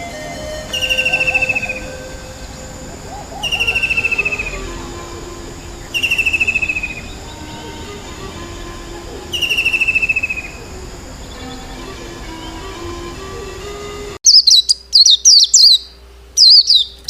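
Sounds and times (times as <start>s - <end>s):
songbird trilling: 0.0s - 13.6s, 14.2s - 17.0s
faint high insect-like hum: 0.0s - 17.0s
short lower bird notes: 0.0s - 17.0s.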